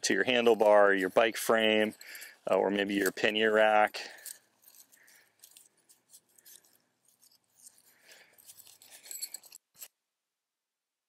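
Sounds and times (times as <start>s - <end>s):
metal tent stakes clinking: 0.0s - 9.9s.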